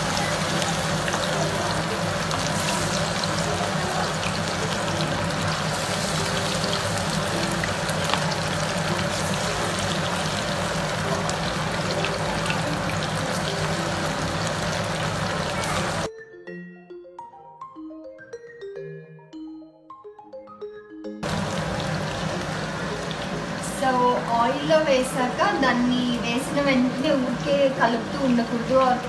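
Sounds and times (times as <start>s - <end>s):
chicken deep-frying in oil: 0.0s - 16.1s, 21.2s - 29.0s.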